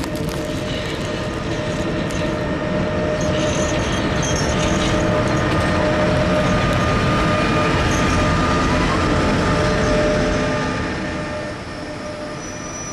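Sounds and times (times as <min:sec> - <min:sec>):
thin steady whine: 0:00.0 - 0:12.9
train wheels rumbling on rails: 0:00.0 - 0:12.9.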